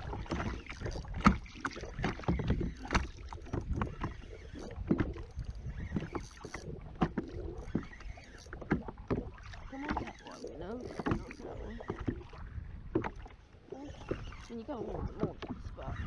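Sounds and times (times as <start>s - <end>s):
small water splashes: 0.0s - 16.0s.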